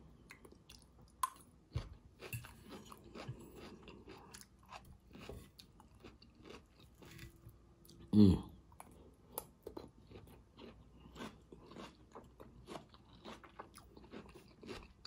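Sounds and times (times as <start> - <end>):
close-up chewing with soft crunches: 0.0 - 8.1, 8.7 - 15.0.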